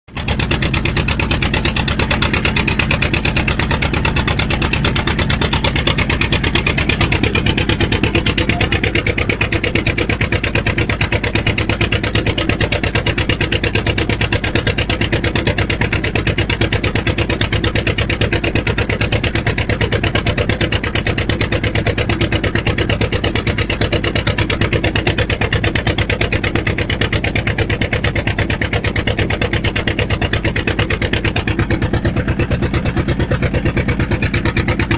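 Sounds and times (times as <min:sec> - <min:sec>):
engine running steadily: 0:00.1 - 0:34.9.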